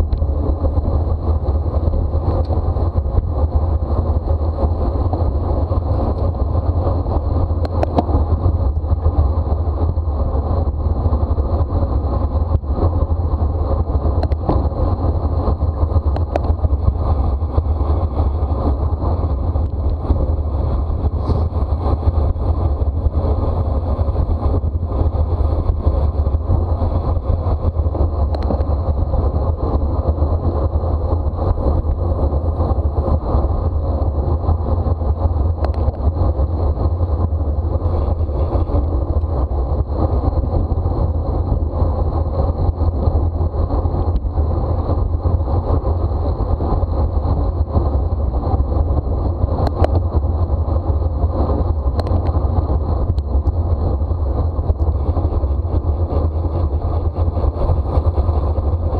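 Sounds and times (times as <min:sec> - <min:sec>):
wind noise on microphone: 0:00.0 - 0:58.9.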